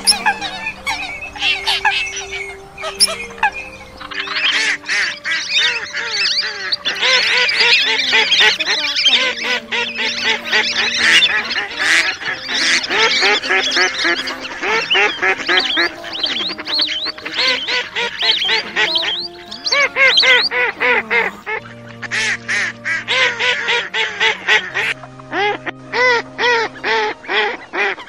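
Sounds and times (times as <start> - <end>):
waterfowl quacking and honking: 0.0 - 28.0.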